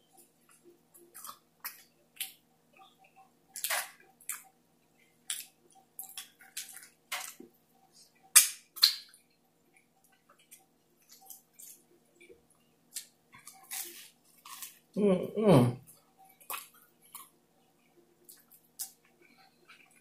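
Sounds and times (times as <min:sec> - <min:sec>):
chewing and lip-smacking: 0:00.2 - 0:07.5, 0:08.2 - 0:14.8, 0:15.8 - 0:20.0.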